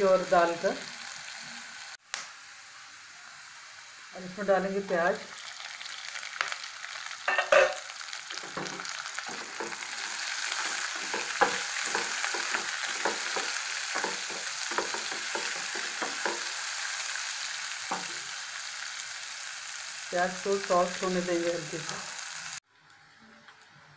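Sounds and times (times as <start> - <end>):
onion sizzling in oil: 0.0 - 23.2.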